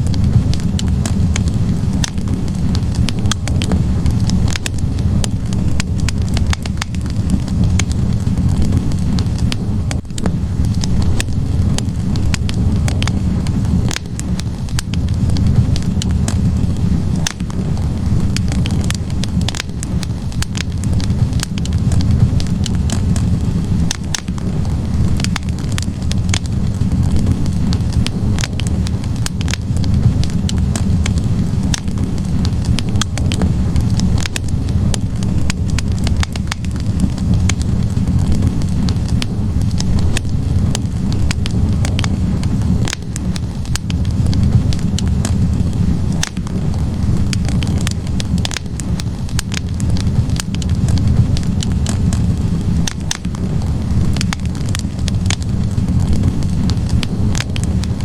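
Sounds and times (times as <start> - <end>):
low rumble of flames: 0.0 - 58.0
sharp pops from fire: 0.0 - 58.0
wood fire crackling: 0.0 - 58.0.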